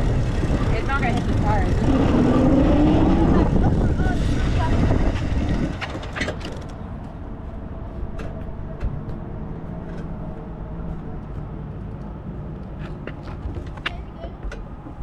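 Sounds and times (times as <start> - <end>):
tyre and wind rumble: 0.0 - 15.0.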